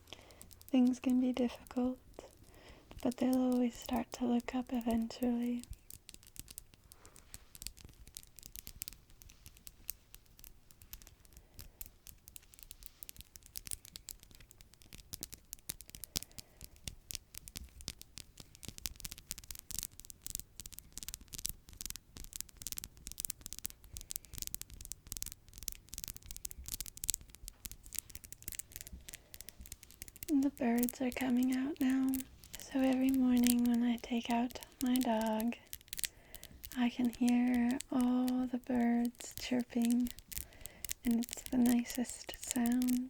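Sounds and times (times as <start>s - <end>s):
fingernails tapping and scratching: 3.1s - 43.0s.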